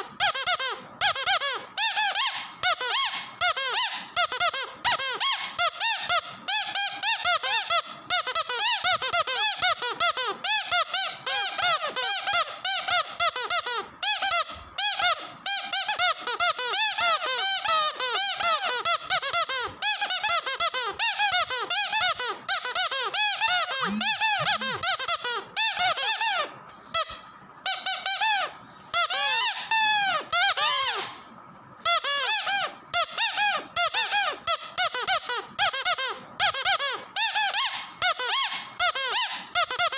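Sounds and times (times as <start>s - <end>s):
squeaky dog toy squeaks: 0.0s - 39.9s.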